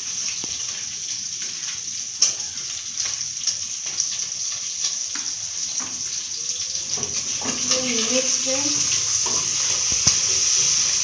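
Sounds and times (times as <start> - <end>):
beef sizzling in hot oil: 0.0 - 11.0.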